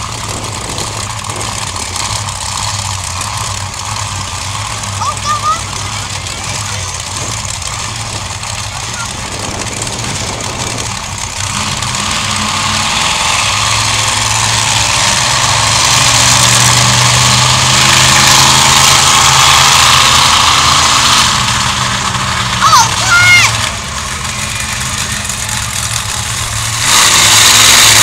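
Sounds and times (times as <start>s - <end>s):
monster truck engines: 0.0s - 28.0s.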